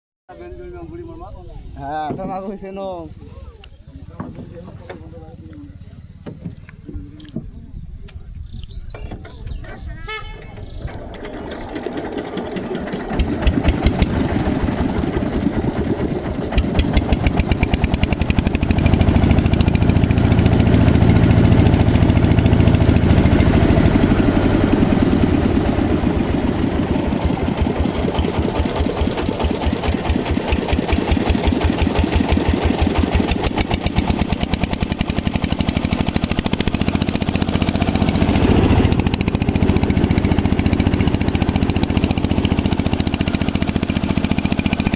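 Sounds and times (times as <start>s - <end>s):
boat engine running: 0.5s - 44.9s.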